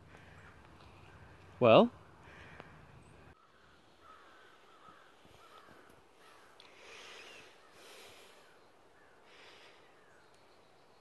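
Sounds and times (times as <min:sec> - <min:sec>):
faint distant bird calls: 0:00.0 - 0:11.0.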